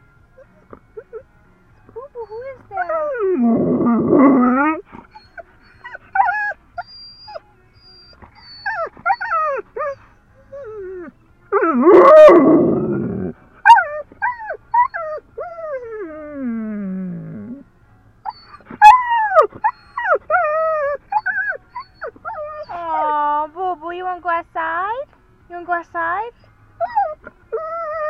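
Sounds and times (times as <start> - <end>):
dog whining and yelping: 0.4 - 1.3, 2.0 - 23.2, 26.3 - 28.0.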